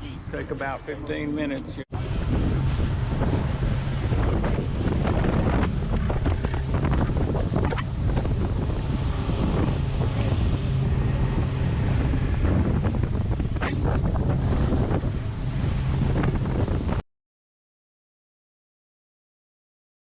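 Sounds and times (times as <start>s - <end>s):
outboard engines droning: 0.0s - 17.0s
water splashing along hull: 0.0s - 17.0s
wind buffeting microphone: 0.0s - 17.0s.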